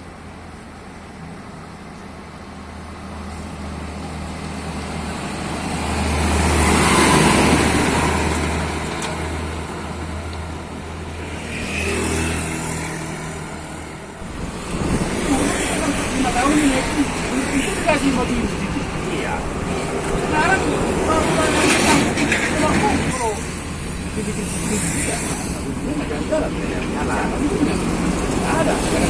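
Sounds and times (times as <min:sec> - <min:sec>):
vehicle passing: 0:03.8 - 0:29.0.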